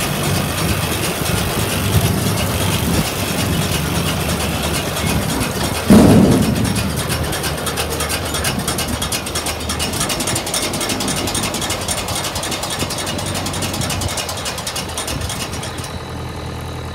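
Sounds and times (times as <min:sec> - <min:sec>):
tractor engine humming: 0:00.0 - 0:16.9
baler chains clattering: 0:00.2 - 0:16.8.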